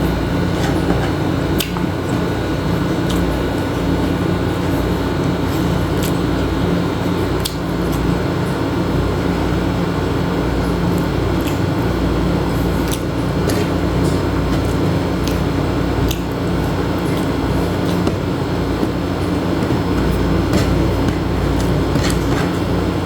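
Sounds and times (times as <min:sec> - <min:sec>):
mechanical drone with low hum: 0:00.0 - 0:23.0.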